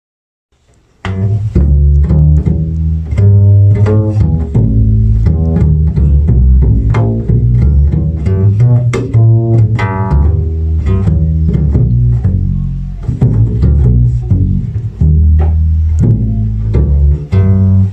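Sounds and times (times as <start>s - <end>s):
double bass plucked notes: 0.6s - 17.9s.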